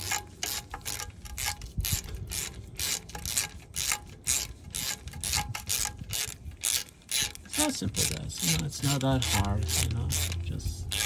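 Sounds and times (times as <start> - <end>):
socket ratchet clicking: 0.0 - 11.0.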